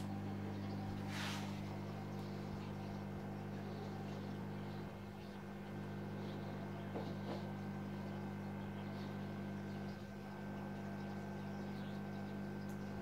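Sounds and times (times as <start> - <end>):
aquarium pump hum: 0.0 - 13.0.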